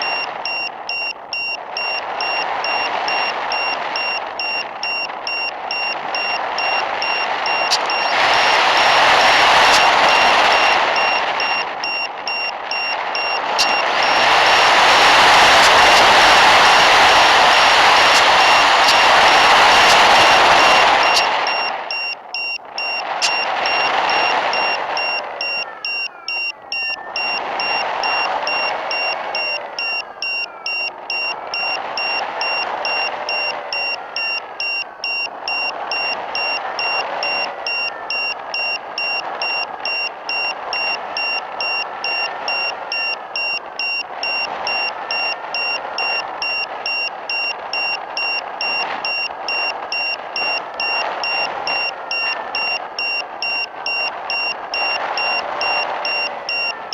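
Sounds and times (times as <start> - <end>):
loud static hiss: 0.0 - 56.9.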